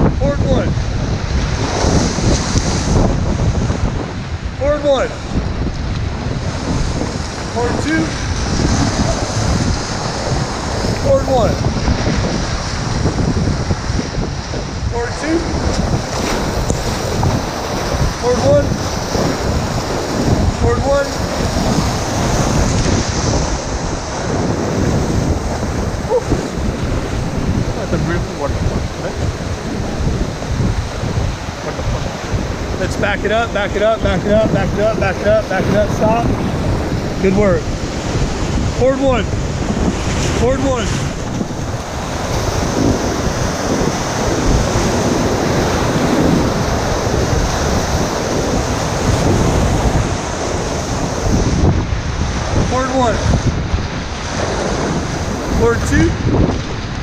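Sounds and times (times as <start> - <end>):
whitewater rushing and splashing: 0.0 - 57.0
wind buffeting microphone: 0.0 - 57.0.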